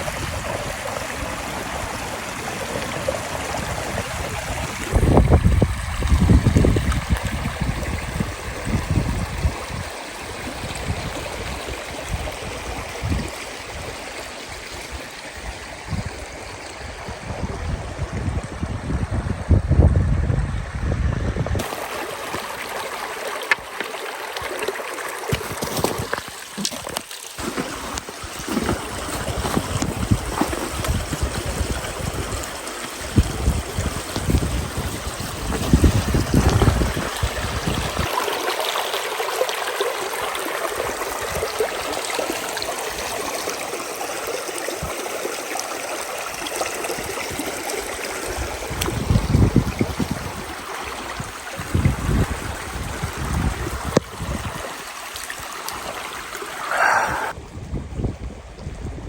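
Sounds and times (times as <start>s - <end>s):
running water rushing: 0.0s - 57.4s.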